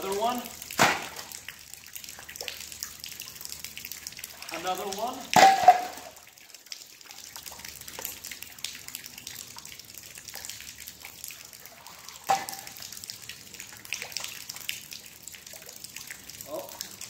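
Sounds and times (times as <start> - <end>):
water splashing and dripping: 0.0 - 17.0.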